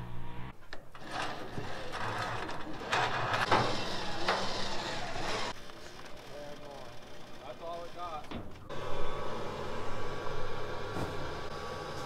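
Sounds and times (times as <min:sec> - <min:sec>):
electric winch running: 0:00.2 - 0:12.0.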